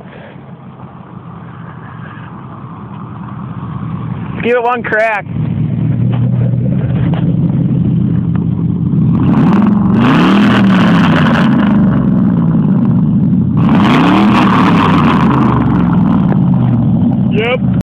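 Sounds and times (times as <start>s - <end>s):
truck engine idling and revving: 0.0s - 17.9s.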